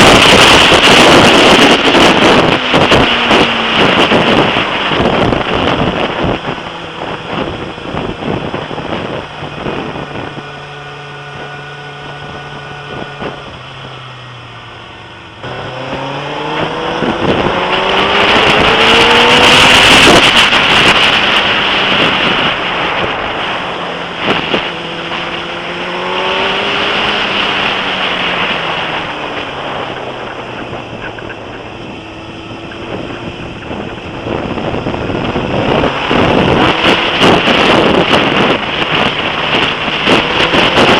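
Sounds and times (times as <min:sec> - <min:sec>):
motorcycle engine accelerating: 0:00.0 - 0:40.9
wind buffeting microphone: 0:00.0 - 0:40.9.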